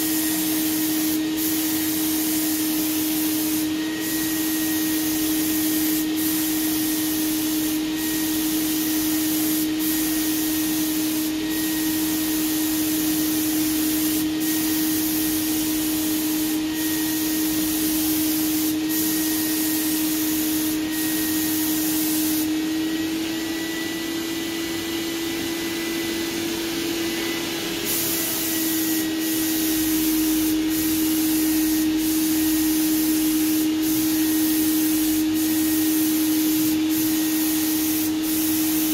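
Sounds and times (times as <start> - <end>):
spray gun hissing: 0.0 - 23.4, 26.2 - 38.9.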